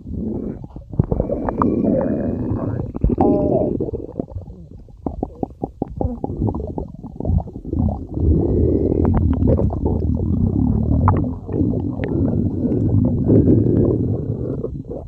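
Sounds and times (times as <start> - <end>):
stomach growling and gurgling: 0.0 - 15.0.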